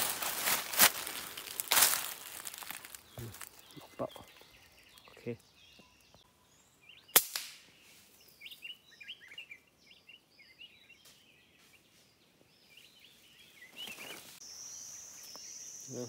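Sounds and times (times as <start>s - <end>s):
bird chirps: 0.4s - 16.0s.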